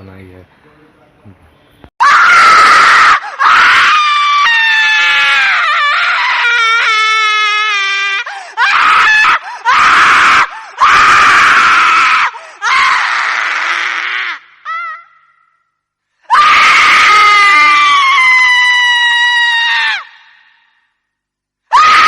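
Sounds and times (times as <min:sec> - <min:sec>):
falling wail: 0:02.0 - 0:15.6, 0:16.3 - 0:20.8, 0:21.7 - 0:22.0.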